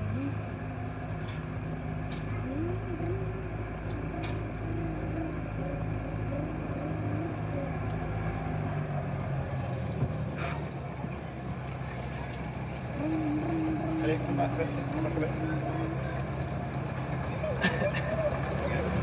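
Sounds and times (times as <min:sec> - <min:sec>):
engine humming steadily: 0:00.0 - 0:19.0
faint voices: 0:00.0 - 0:19.0.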